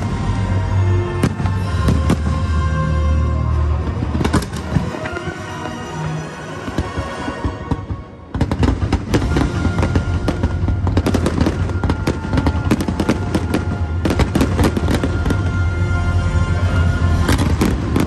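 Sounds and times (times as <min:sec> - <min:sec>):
fireworks bursting: 0:00.0 - 0:18.0
music: 0:00.0 - 0:18.0.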